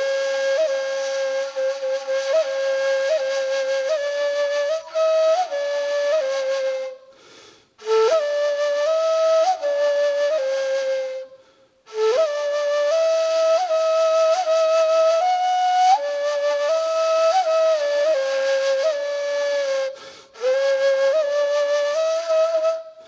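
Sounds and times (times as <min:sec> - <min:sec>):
breathy reed flute melody: 0:00.0 - 0:23.0.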